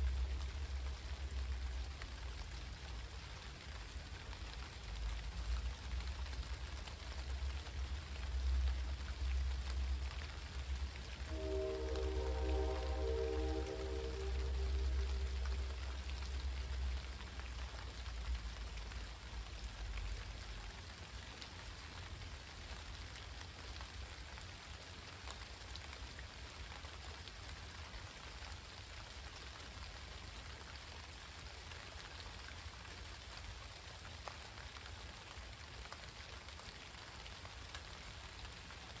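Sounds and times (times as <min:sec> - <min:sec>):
raindrops ticking: 0:00.0 - 0:39.0
steady rain falling: 0:00.0 - 0:39.0.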